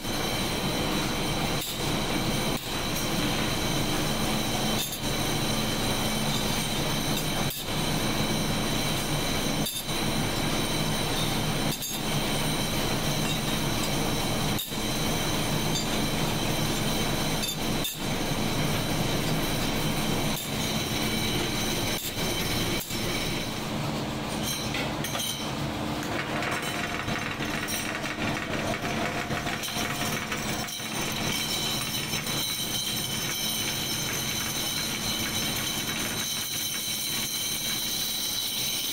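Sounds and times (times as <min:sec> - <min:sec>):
factory machinery hum: 0:00.0 - 0:38.9
high machine whine: 0:00.0 - 0:38.9.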